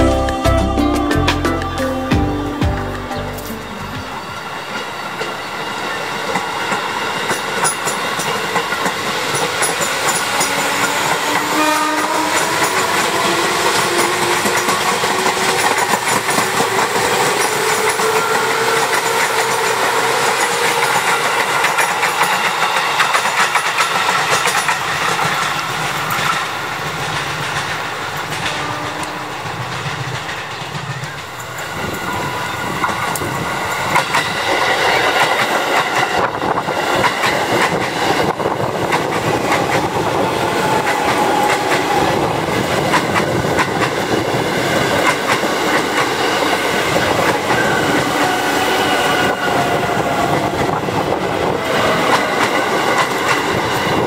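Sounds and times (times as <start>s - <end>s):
train rolling rumble: 0.0s - 54.0s
wheels clacking over rail joints: 3.4s - 54.0s.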